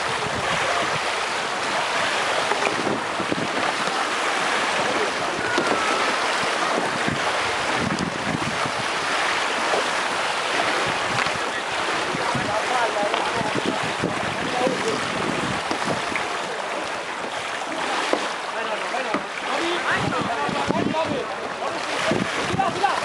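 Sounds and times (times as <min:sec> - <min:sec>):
wind noise on microphone: 0:00.0 - 0:16.4, 0:19.8 - 0:23.0
paddles splashing water: 0:00.0 - 0:23.0.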